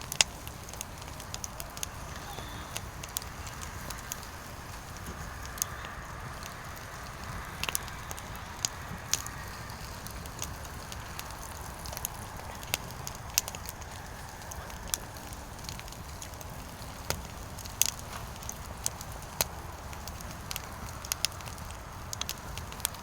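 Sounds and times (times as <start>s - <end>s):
firewood burning and crackling: 0.0s - 23.0s.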